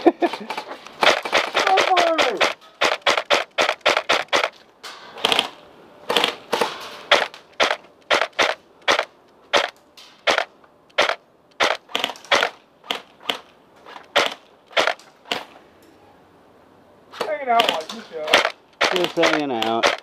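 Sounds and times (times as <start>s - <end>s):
airsoft gun single shots: 1.0s - 4.6s, 5.2s - 13.5s, 14.1s - 15.5s, 17.2s - 20.0s.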